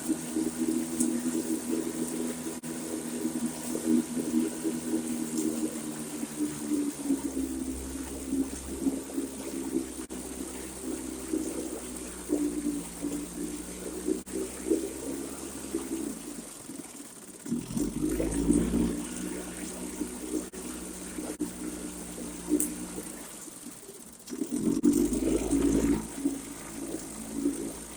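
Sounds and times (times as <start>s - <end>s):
outboard motor running: 0.0s - 27.9s
water churning: 0.0s - 27.9s.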